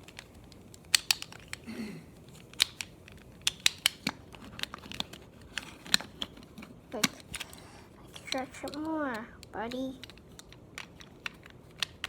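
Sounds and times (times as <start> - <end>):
plastic puzzle pieces clicking: 0.0 - 12.0.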